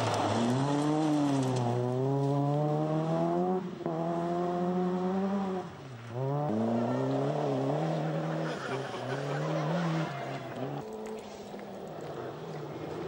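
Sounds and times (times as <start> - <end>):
rally car engines revving: 0.0 - 13.0.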